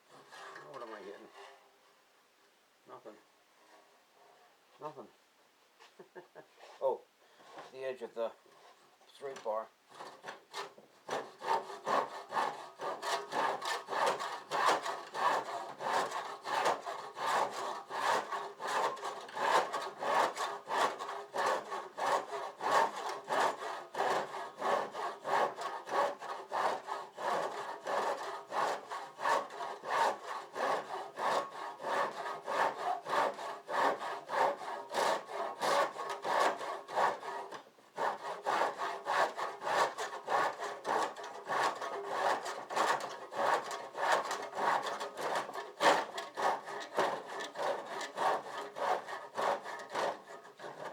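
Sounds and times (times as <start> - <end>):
hand saw cutting: 0.1 - 1.6, 9.2 - 50.9.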